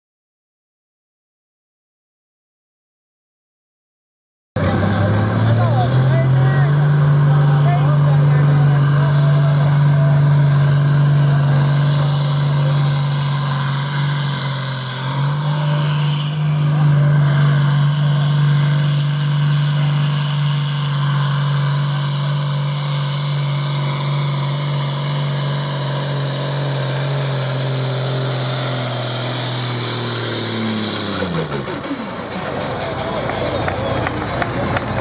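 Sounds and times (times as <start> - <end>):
tractor engine running at high revs: 4.6 - 35.0.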